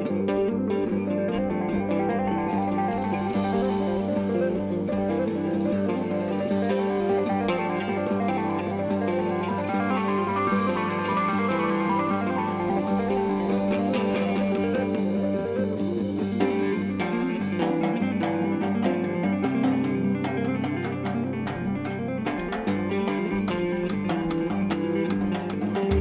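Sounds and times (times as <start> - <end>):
bass guitar: 0.0 - 26.0
electric guitar: 0.0 - 26.0
drum kit beat: 2.5 - 26.0.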